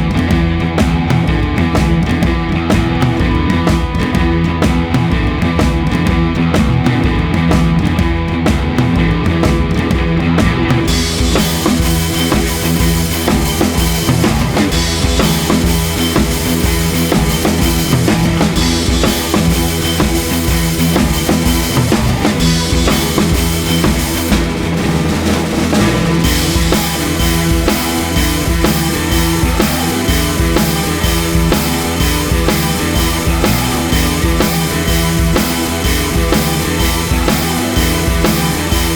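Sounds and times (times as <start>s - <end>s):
guitar: 0.0s - 38.9s
rock band music: 0.0s - 38.9s
steady drum beat: 0.0s - 38.9s.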